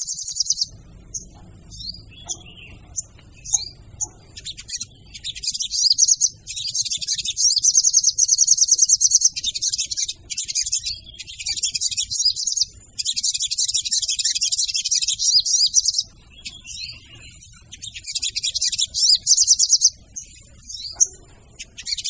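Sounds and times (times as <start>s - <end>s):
high-pitched bird trills: 0.0s - 22.0s.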